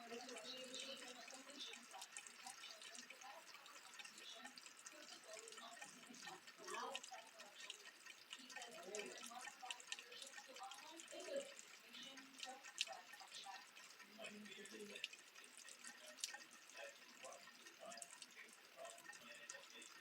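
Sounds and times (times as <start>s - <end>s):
faint rain dripping: 0.0s - 20.0s.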